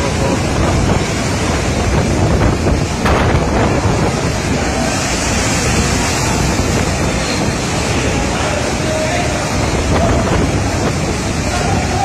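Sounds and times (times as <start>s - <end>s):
heavy rain: 0.0s - 12.0s
strong wind: 0.0s - 12.0s
wind buffeting microphone: 0.0s - 12.0s.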